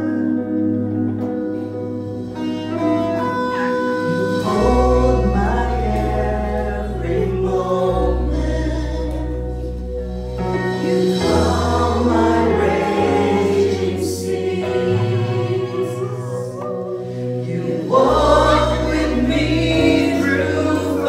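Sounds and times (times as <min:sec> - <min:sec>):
worship band playing: 0:00.0 - 0:21.0
congregation singing: 0:02.4 - 0:21.0.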